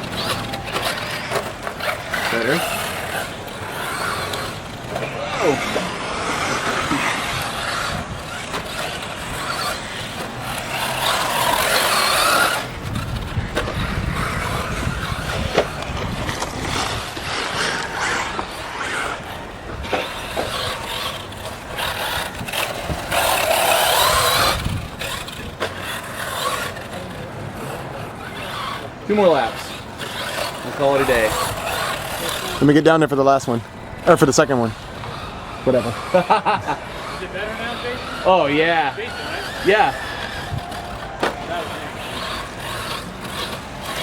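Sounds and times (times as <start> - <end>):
rc car tyres and drivetrain hiss: 0.0 - 44.0.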